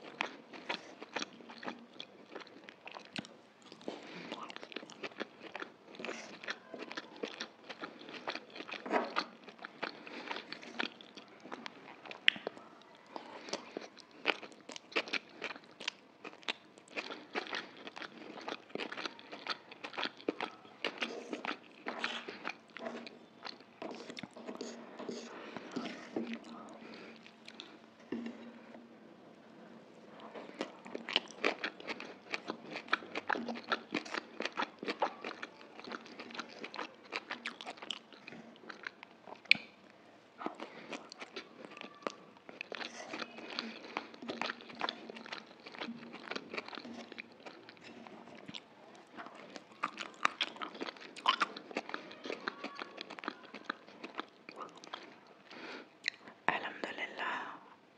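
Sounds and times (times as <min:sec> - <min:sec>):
crunchy chewing of vegetables: 0:00.0 - 0:28.9, 0:29.9 - 0:56.3.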